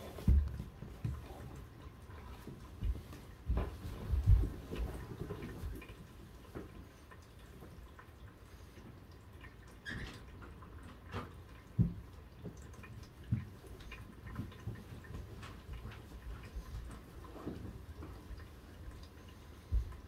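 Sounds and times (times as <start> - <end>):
light rain hiss: 0.0 - 20.0
water dripping: 0.0 - 20.0.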